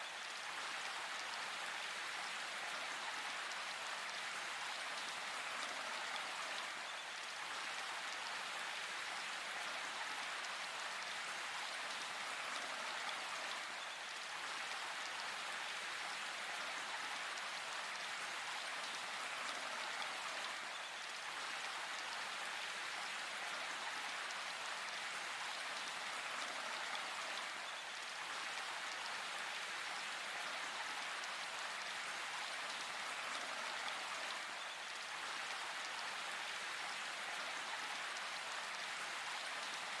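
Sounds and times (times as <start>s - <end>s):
steady rain in a forest: 0.0s - 40.0s.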